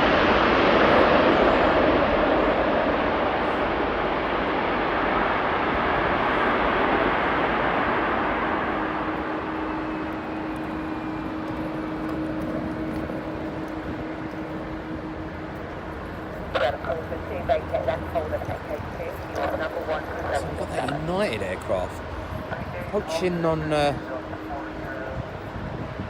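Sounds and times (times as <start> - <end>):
jet airliner roar: 0.0 - 26.0
steady low hum: 0.0 - 26.0.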